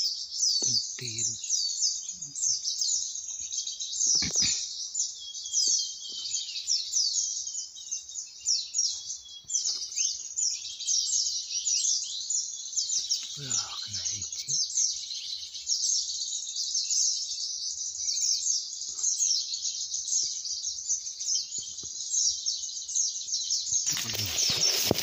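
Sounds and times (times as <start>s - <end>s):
small birds chirping chorus: 0.0s - 25.0s.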